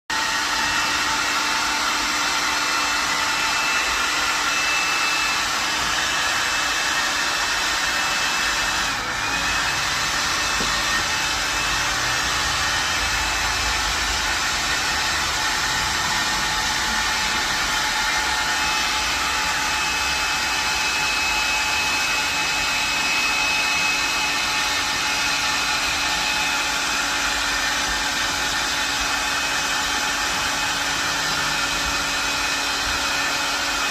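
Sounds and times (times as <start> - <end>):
electric air blower whining: 0.1 - 33.9.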